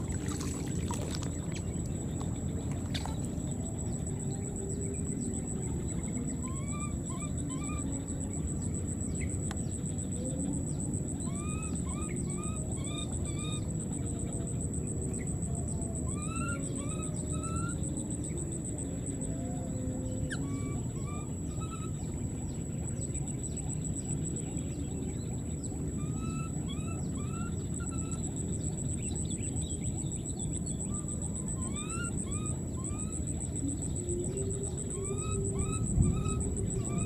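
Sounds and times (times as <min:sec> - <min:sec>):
high-pitched insect whine: 0:00.0 - 0:37.0.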